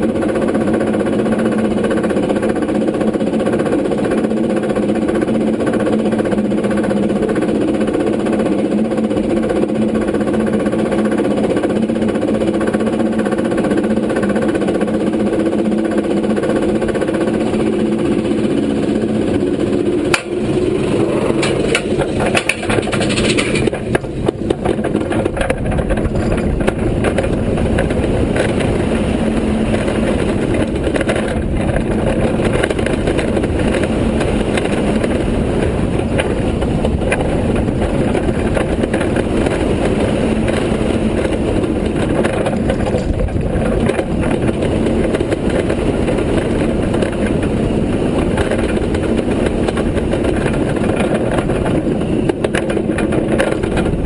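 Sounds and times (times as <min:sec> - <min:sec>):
roller coaster clicks and knocks: 0:00.0 - 0:54.0
rush of wind: 0:00.0 - 0:54.0
wheels rumbling on steel track: 0:00.0 - 0:54.0.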